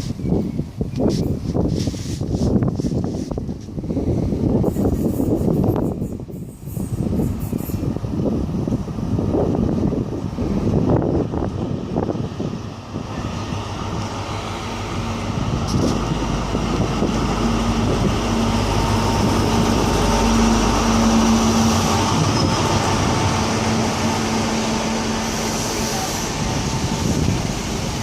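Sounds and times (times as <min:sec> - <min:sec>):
diesel train engine drone: 0:03.8 - 0:28.0.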